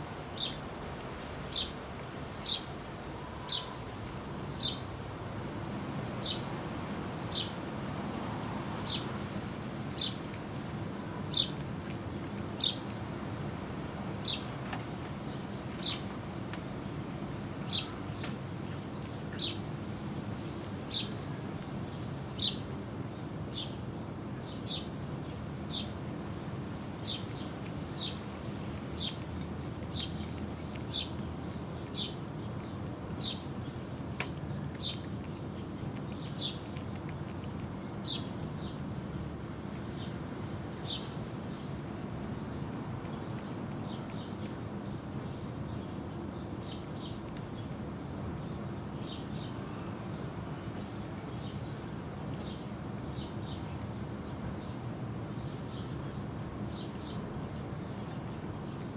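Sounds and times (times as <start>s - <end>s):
low background hum: 0.0s - 58.9s.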